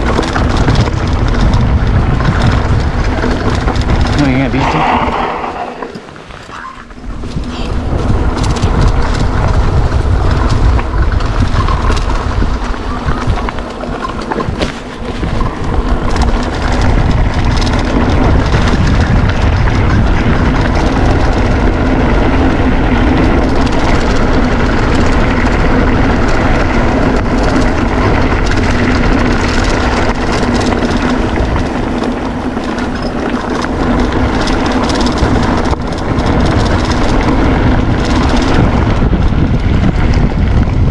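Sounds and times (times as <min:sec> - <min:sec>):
bike knocking over bumps: 0:00.0 - 0:04.2, 0:06.0 - 0:40.7
bike tyres rumbling on gravel: 0:00.0 - 0:40.9
wind rushing over microphone: 0:00.0 - 0:40.9.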